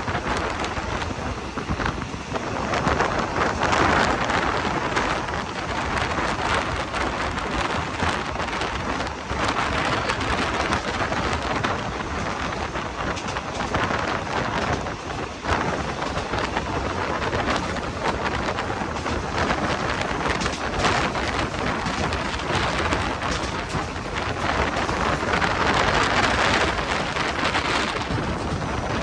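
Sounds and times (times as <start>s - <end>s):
passenger train running at speed: 0.0s - 29.0s.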